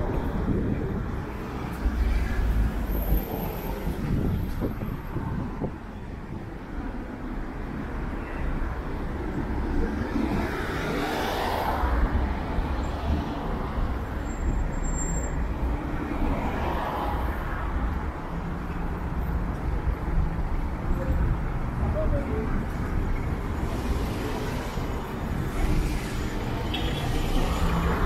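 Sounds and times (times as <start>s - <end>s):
low rumble of traffic: 0.0s - 28.0s
vehicles passing: 0.0s - 28.0s.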